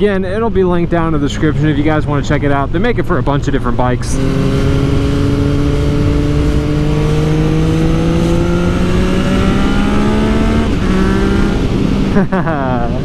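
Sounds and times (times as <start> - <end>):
motorcycle engine revving: 0.8 - 12.4.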